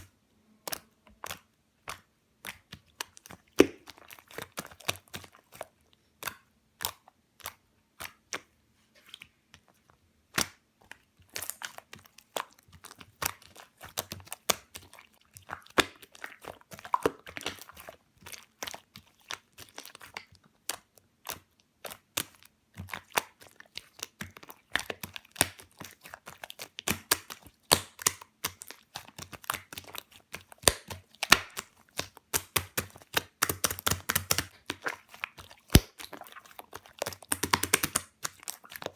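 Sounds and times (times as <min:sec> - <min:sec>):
slime clicking and popping: 0:00.0 - 0:08.5, 0:10.3 - 0:38.9.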